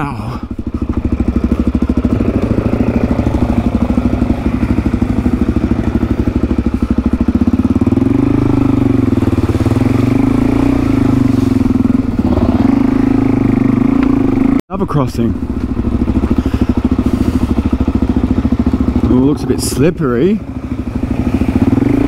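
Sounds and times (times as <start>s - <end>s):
dirt bike engine thumping: 0.5s - 14.6s, 15.4s - 19.2s.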